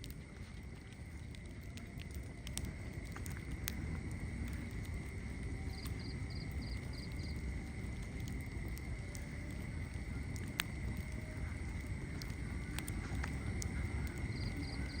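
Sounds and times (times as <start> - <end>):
fire crackling and popping: 0.0 - 15.0
flames rushing: 0.0 - 15.0.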